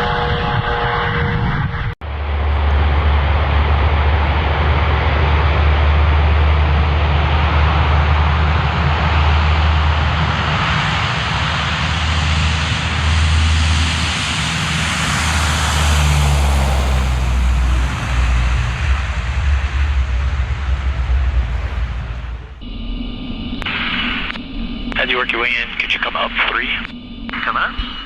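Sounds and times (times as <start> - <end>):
aircraft engine roar: 0.0 - 28.0.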